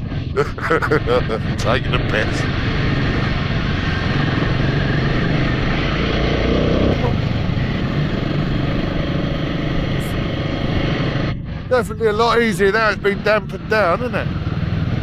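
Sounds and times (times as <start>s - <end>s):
road noise: 0.0s - 15.0s
wind: 0.0s - 15.0s.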